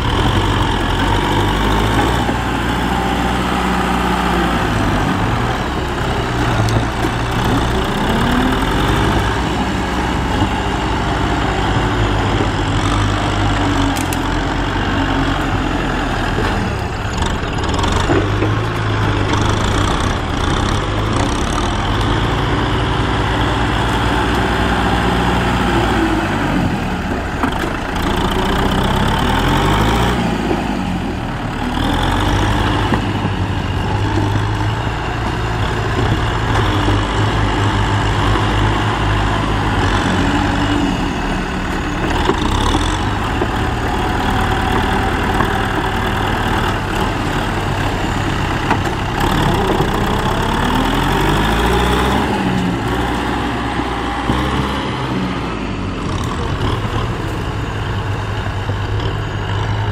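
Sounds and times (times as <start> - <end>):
tractor diesel engines: 0.0 - 59.9.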